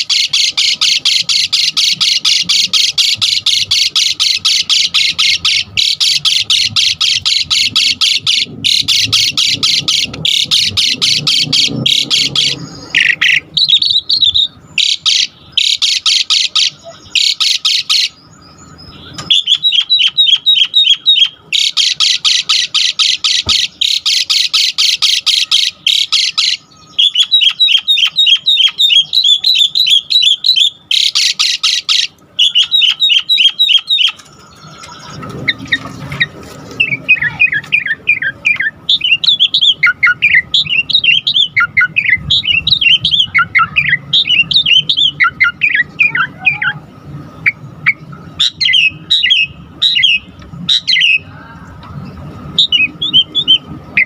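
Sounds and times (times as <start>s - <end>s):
faint steady hum: 0.0s - 54.0s
starling chattering and whistling: 0.0s - 54.0s.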